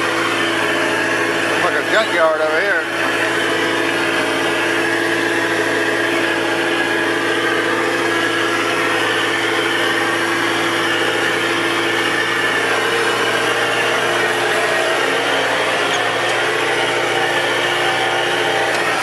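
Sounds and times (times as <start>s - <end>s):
loader engine running: 0.0s - 19.0s.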